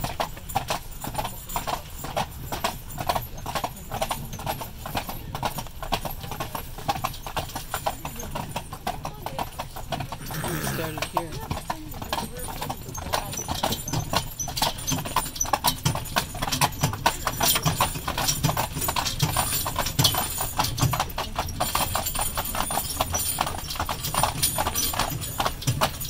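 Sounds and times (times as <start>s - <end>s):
horse hooves clip-clopping on pavement: 0.0s - 26.0s.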